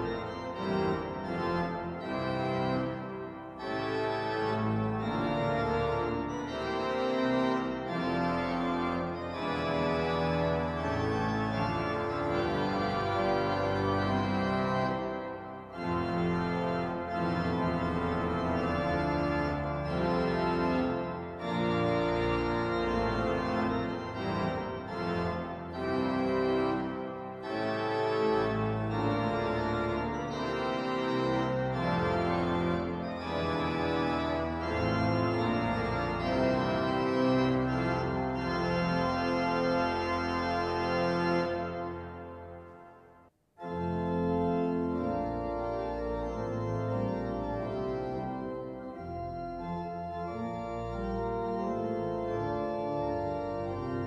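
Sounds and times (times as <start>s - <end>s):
organ chords: 0.0s - 54.0s.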